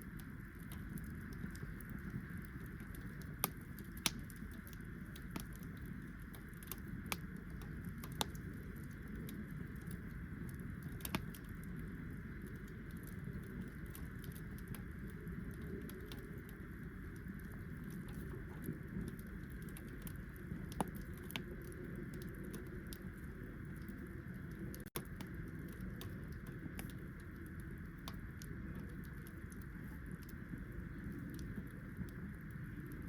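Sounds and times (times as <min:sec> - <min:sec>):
low rumble of wind: 0:00.0 - 0:33.0
wood fire crackling: 0:00.0 - 0:33.0.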